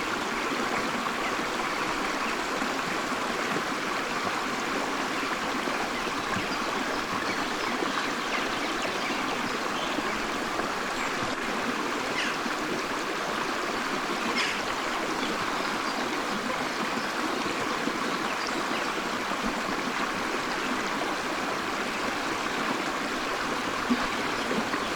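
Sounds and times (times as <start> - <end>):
forest stream flowing: 0.0 - 24.9.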